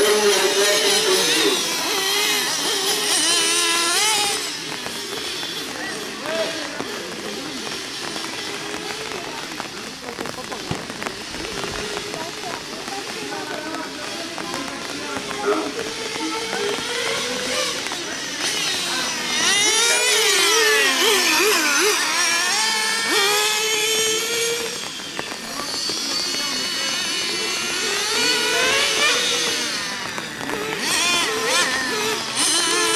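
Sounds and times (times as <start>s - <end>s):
rc car engines whining: 0.0s - 32.9s.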